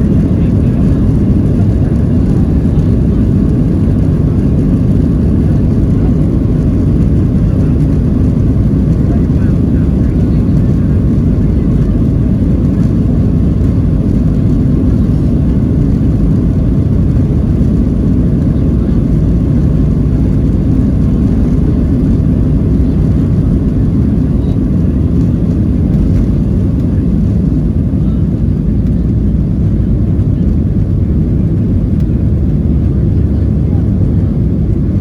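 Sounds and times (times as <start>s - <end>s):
jet engine cabin rumble: 0.0s - 35.0s.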